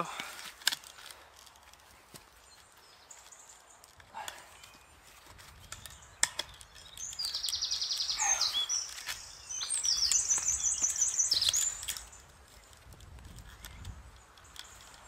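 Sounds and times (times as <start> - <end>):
songbird singing: 2.0 - 15.0.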